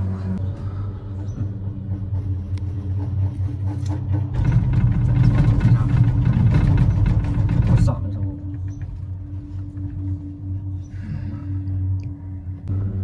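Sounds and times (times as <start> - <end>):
gondola rattling over rollers: 0.0 - 10.8
gondola cabin low rumble: 0.0 - 13.0.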